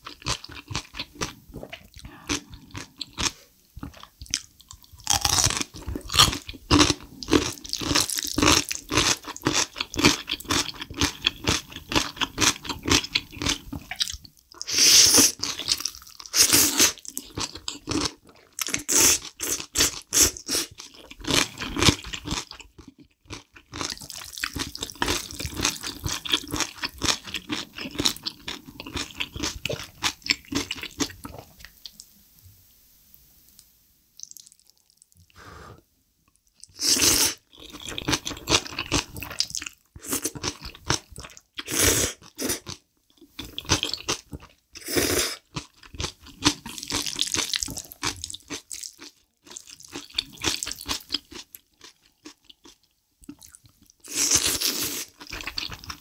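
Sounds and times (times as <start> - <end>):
wet chewing and slurping noodles: 0.0 - 31.7, 36.6 - 56.0.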